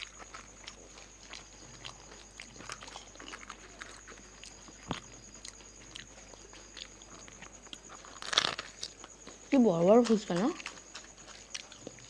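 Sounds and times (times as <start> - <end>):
crisp shells bitten and chewed: 0.0 - 12.0.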